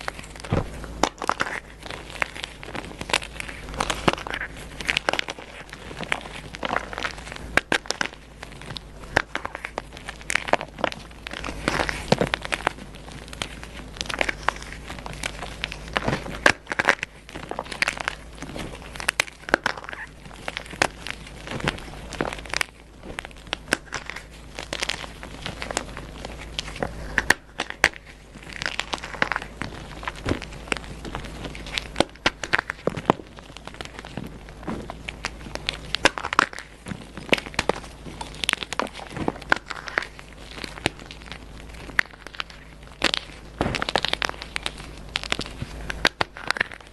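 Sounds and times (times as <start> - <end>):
chalk being crushed: 0.0 - 46.9.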